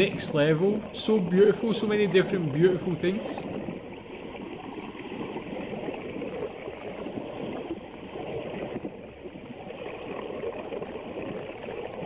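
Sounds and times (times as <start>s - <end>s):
muffled underwater water rushing: 0.0s - 12.0s.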